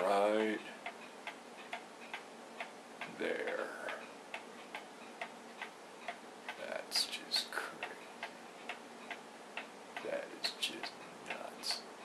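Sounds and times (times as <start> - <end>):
radiation detector clicking: 0.0 - 11.9.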